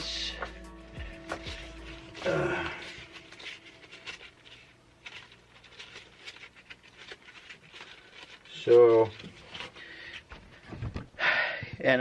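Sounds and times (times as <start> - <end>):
hands handling wiring: 0.3 - 11.1.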